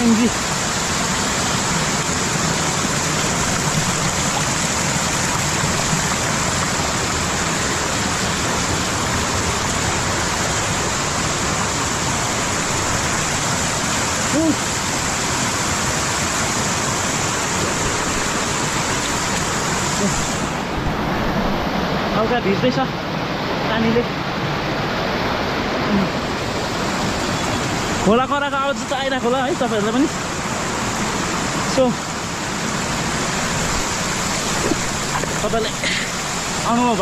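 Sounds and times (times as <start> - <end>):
water rushing over rocks: 0.0 - 37.0.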